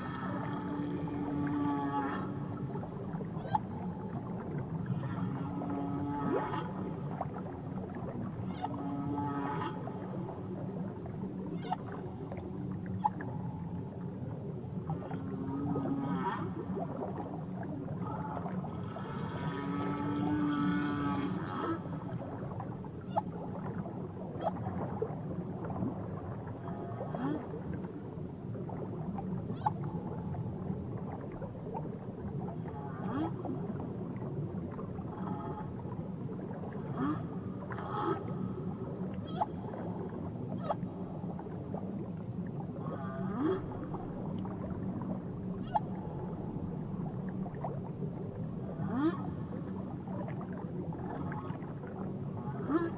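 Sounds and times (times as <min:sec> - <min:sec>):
whale calls underwater: 0:00.0 - 0:52.9.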